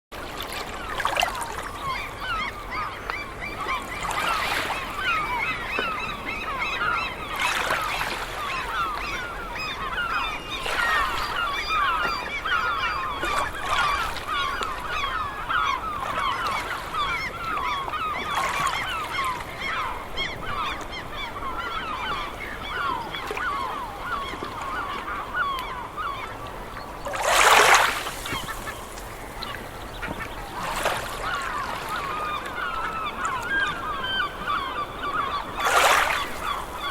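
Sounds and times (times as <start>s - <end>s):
flock of birds chattering: 1.2s - 36.9s.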